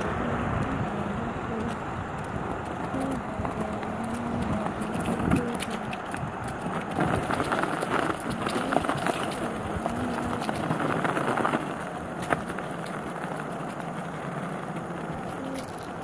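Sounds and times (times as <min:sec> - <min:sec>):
skateboard clacking over bumps: 0:00.0 - 0:16.0
skateboard wheels rumbling: 0:00.0 - 0:16.0.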